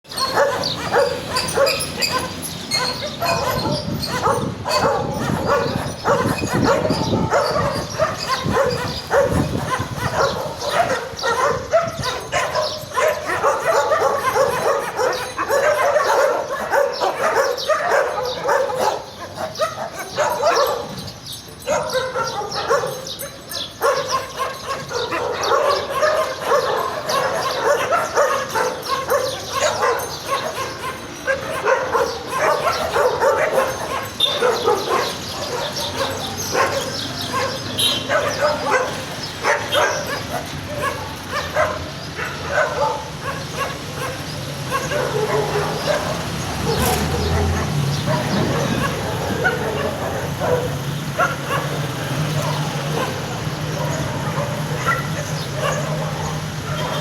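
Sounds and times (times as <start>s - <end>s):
dogs barking and yipping: 0.0s - 57.0s.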